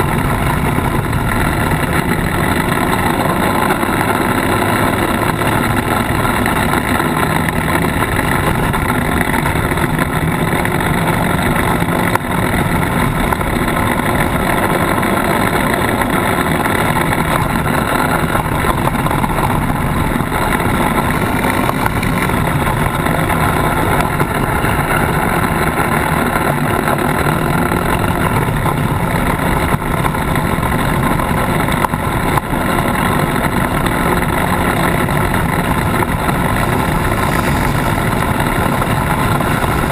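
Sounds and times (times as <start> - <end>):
driving noise on gravel: 0.0 - 39.9
off-road vehicle engine running: 0.0 - 39.9.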